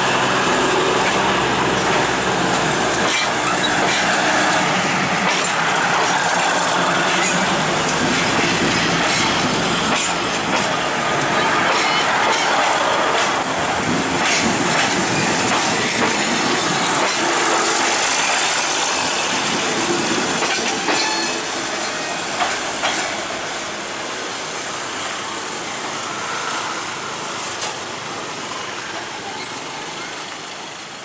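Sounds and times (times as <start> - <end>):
diesel train passing: 0.0 - 31.0
train wheels clicking on rails: 0.0 - 31.0.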